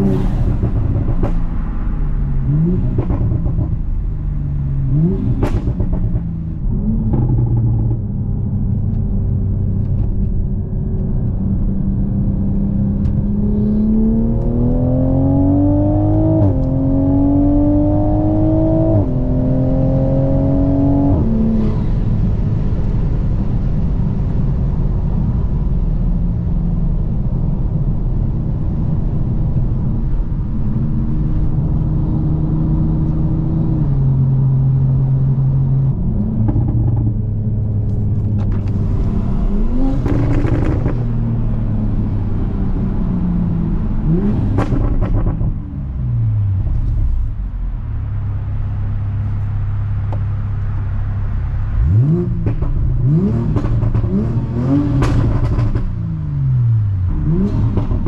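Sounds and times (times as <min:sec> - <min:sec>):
car engine revving: 0:00.0 - 0:10.1, 0:11.0 - 0:22.6, 0:30.8 - 0:58.0.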